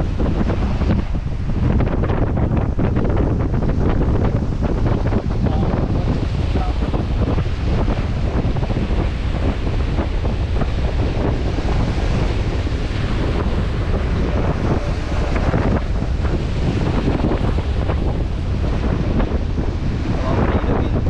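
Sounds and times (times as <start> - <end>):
surf breaking: 0.0 - 21.0
wind buffeting microphone: 0.0 - 21.0.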